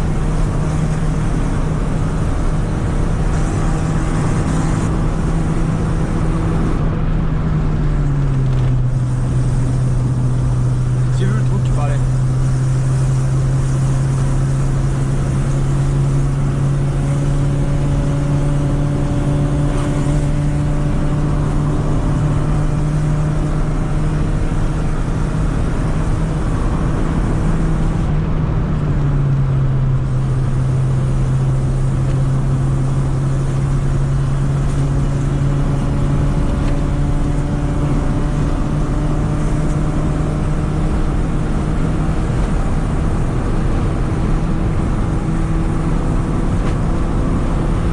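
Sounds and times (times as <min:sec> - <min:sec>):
car engine droning: 0:00.0 - 0:47.9.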